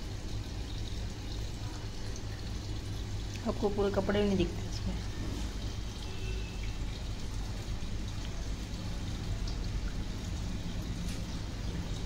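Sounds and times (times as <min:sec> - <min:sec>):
water pouring into washing machine: 0:00.0 - 0:12.0.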